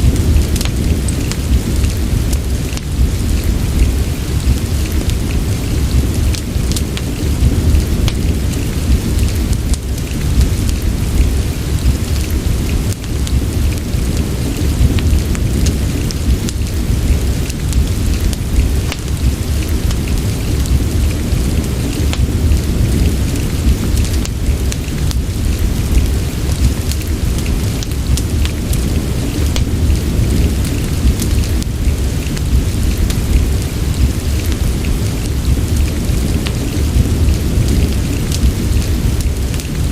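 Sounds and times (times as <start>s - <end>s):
deep continuous rumble: 0.0s - 39.9s
fireplace crackling: 0.0s - 39.9s
steady rain: 0.0s - 39.9s.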